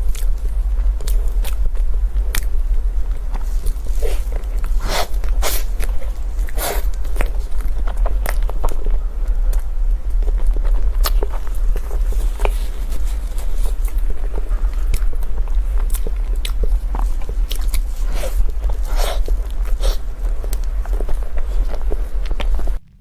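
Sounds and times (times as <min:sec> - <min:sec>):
person chewing food: 0:00.0 - 0:22.8
steady low hum: 0:00.0 - 0:23.0.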